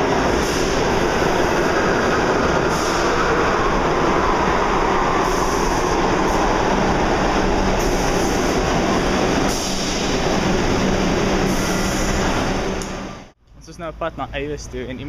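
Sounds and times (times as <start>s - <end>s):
subway train rumble and rail noise: 0.0s - 15.0s.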